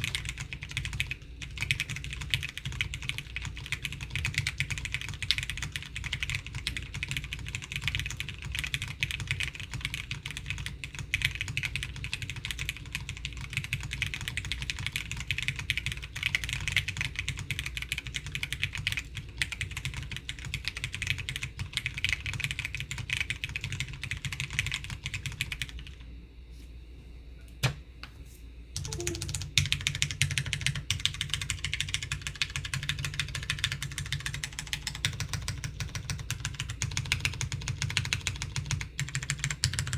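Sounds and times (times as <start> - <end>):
mechanical keyboard typing: 0.0 - 26.0, 28.8 - 39.9.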